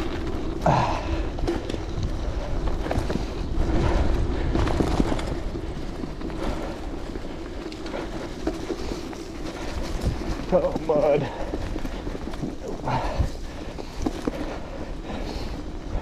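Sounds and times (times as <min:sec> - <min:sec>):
bicycle frame rattle: 0:00.0 - 0:16.0
bicycle tyres crunching gravel: 0:00.0 - 0:16.0
wind rumbling on microphone: 0:00.0 - 0:16.0.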